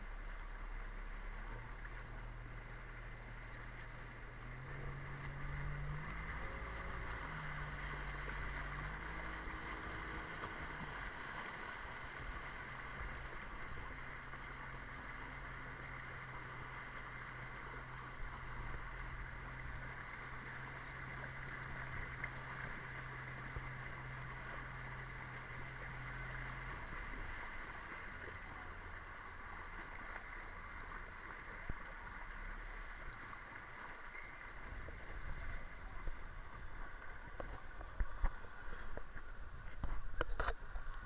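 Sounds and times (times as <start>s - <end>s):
boat motor running: 0.0s - 41.0s
rushing water: 0.0s - 41.0s.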